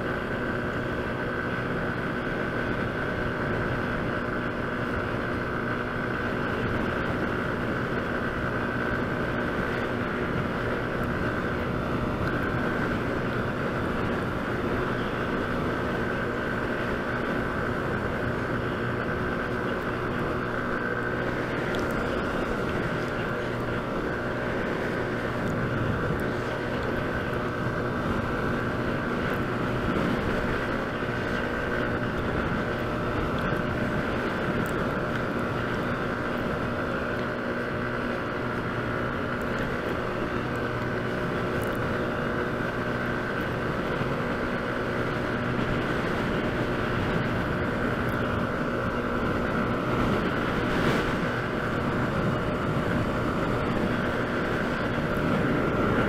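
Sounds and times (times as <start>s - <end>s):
scooter engine humming: 0.0s - 56.0s
wind on microphone: 0.0s - 56.0s.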